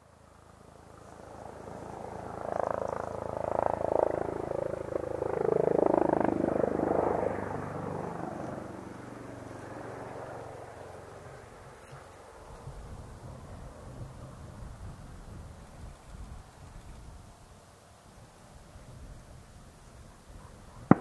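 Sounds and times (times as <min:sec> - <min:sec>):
helicopter flying past: 0:00.0 - 0:21.0.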